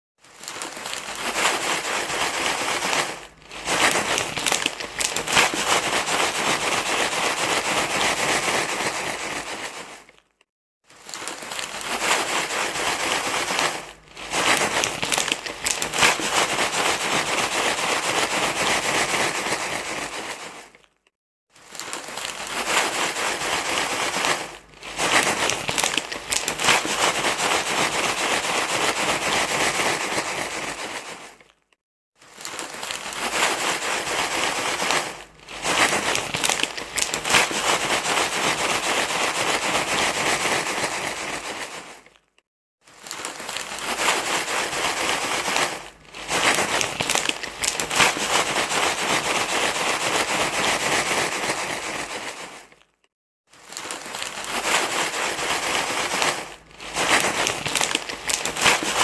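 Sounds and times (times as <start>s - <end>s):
crinkling rustle of crumpling: 0.2s - 59.0s.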